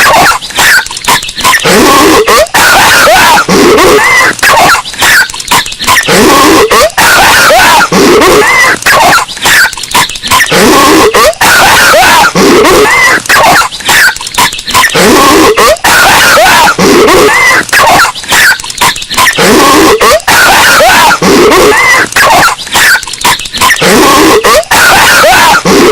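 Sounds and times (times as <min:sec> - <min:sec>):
cartoon character coughing raspily: 0:00.0 - 0:25.9.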